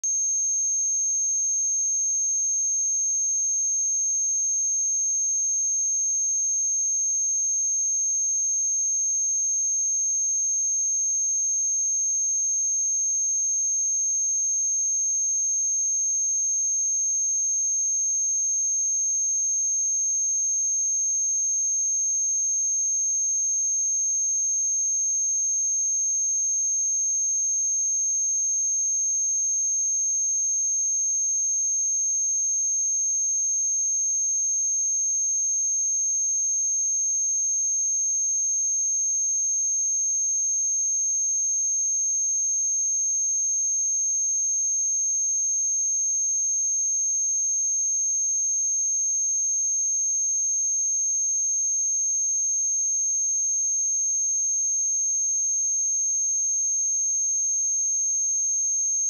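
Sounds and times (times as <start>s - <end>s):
high-pitched sine test tone: 0.0s - 59.0s.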